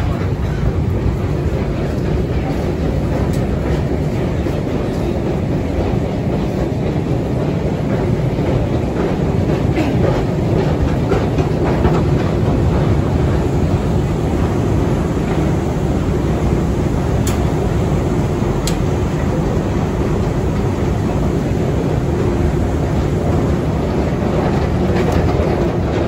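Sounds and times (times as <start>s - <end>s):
crowd hubbub: 0.0s - 26.0s
escalator mechanical rumble: 0.0s - 26.0s.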